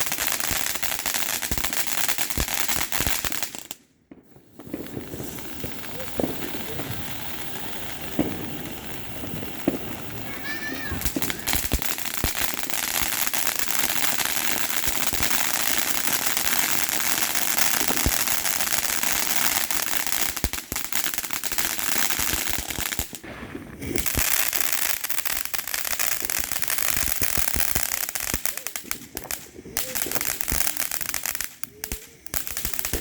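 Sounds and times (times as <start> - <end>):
fireworks crackling: 0.0 - 33.0.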